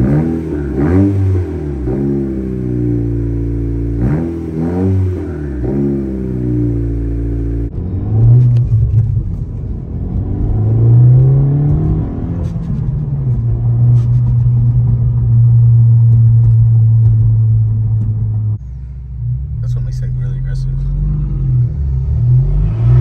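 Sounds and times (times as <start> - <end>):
car engine and exhaust from cabin: 0.0 - 23.0.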